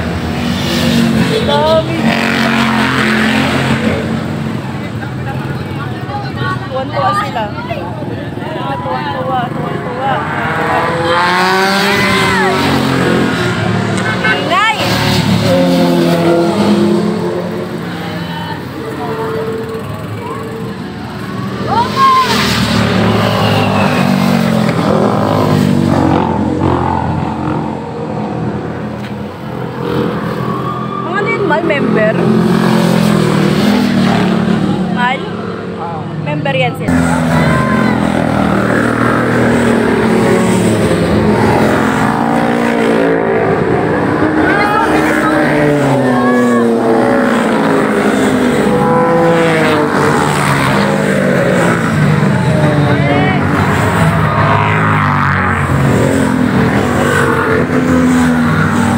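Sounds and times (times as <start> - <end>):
motorcycles passing: 0.0 - 58.9.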